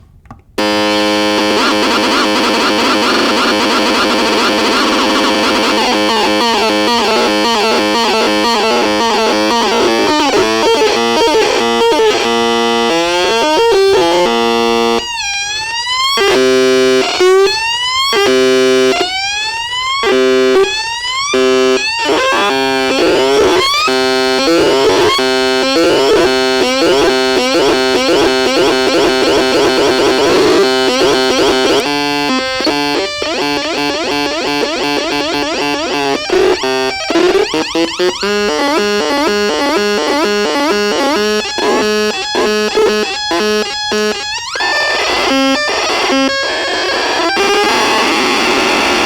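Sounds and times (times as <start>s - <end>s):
buzzy warbling synth tone: 0.6s - 15.2s, 20.0s - 49.0s
stepping synth notes: 0.6s - 49.0s.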